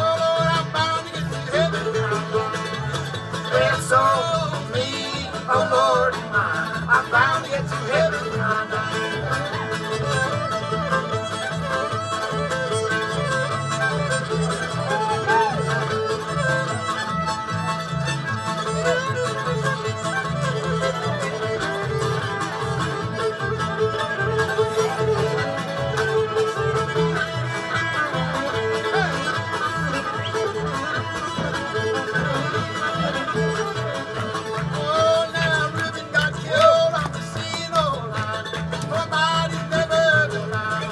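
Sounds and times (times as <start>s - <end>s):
banjo: 0.0s - 40.9s
fiddle melody: 0.0s - 40.9s
guitar: 0.0s - 40.9s
upright bass: 0.0s - 40.9s.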